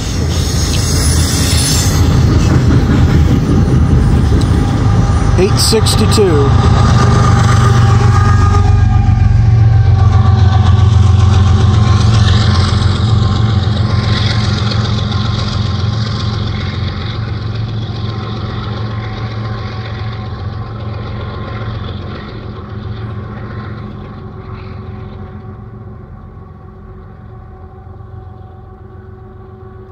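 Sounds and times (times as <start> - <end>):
diesel locomotive engine drone: 0.0 - 29.9.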